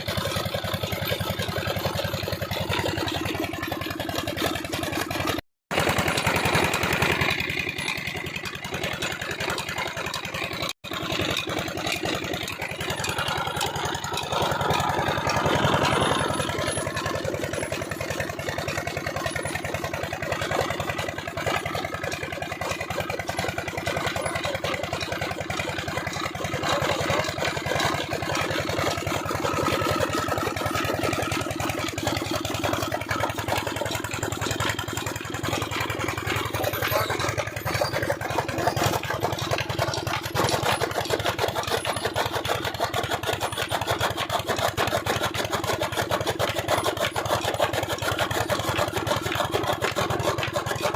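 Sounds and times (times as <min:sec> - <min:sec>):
stationary diesel engine running: 0:00.0 - 0:50.9.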